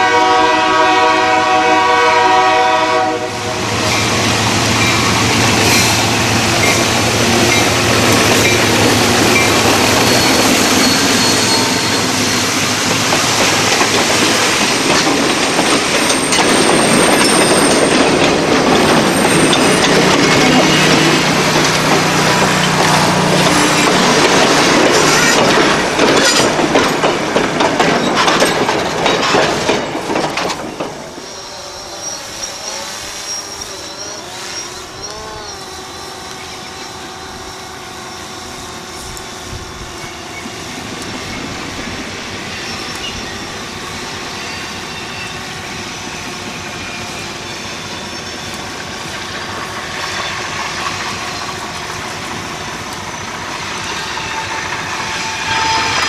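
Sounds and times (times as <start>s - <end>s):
diesel locomotive engine hum: 0.0s - 56.0s
distant train: 0.0s - 56.0s
train wheels clacking on rail joints: 3.6s - 56.0s.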